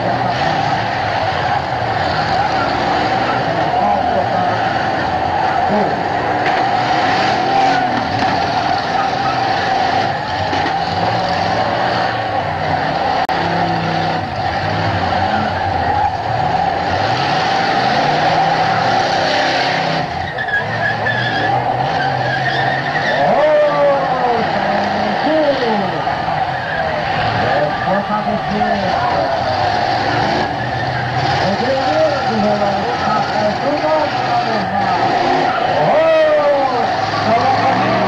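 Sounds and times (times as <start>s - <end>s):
car engines revving: 0.0s - 38.0s
wheels squealing: 0.0s - 38.0s.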